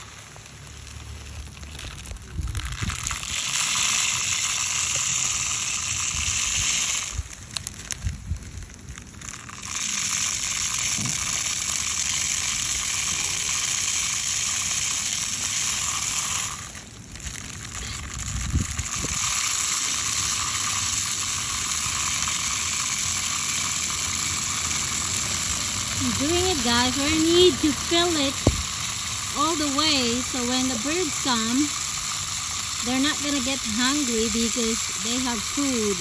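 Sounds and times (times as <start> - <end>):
birdseed pouring into feeder: 0.0 - 36.0.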